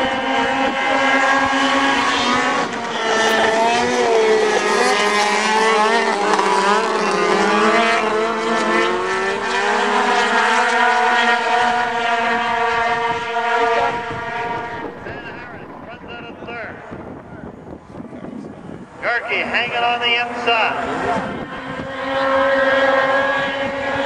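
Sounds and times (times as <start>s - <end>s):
snowmobile engines revving: 0.0s - 24.0s.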